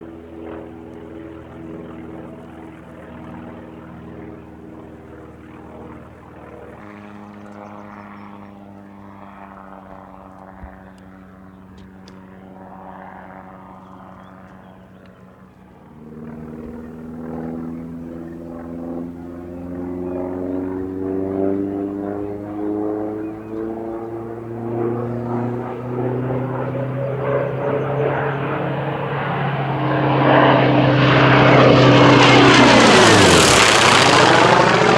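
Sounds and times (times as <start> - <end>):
radial engine and propeller in flight: 0.0 - 34.9.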